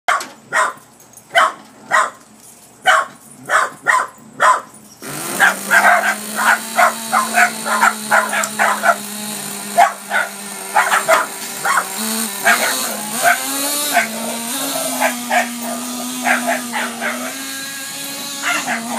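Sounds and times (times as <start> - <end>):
dogs barking: 0.1 - 2.2, 2.8 - 18.9.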